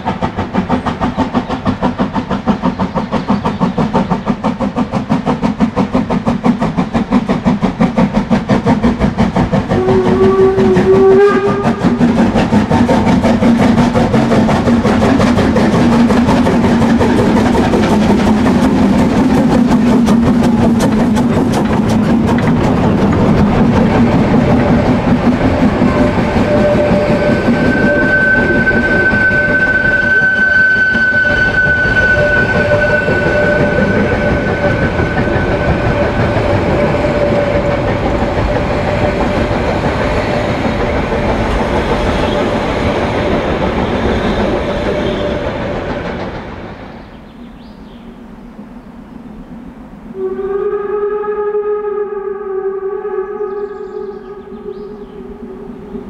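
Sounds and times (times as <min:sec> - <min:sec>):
wheels clicking over rails: 0:00.0 - 0:30.4, 0:31.4 - 0:47.2
steam train running: 0:00.0 - 0:56.0.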